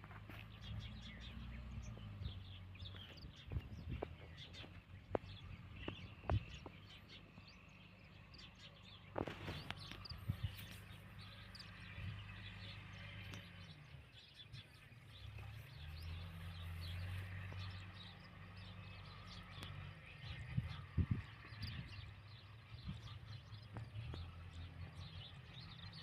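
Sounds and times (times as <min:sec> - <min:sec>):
birds chirping: 0:00.0 - 0:26.0
faint low engine hum: 0:00.0 - 0:26.0.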